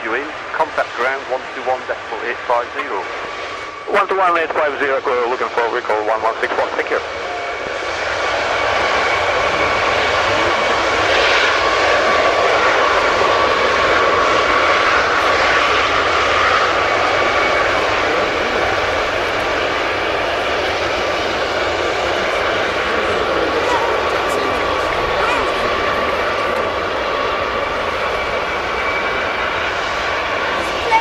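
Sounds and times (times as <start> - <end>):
high jet whine: 0.0 - 31.0
jet engines rushing: 0.0 - 31.0.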